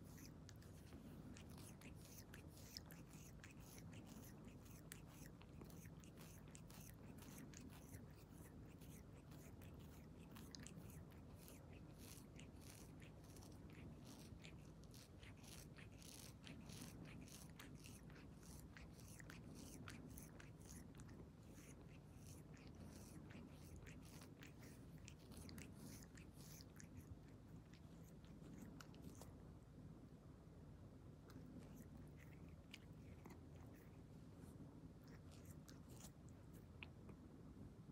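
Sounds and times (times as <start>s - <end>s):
cat licking fur: 0.0s - 29.6s, 31.1s - 37.3s
low room hum: 0.0s - 37.9s.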